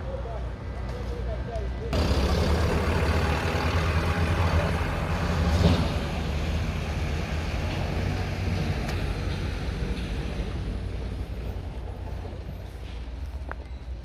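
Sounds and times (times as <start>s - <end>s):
truck engine rumbling: 1.8s - 14.0s.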